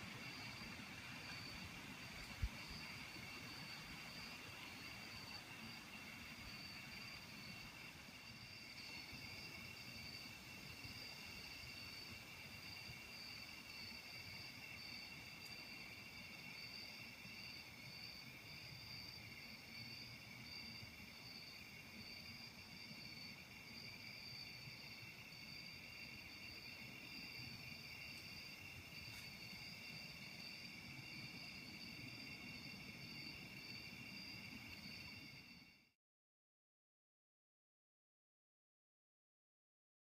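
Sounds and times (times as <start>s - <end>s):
insects chorus: 0.0s - 35.9s.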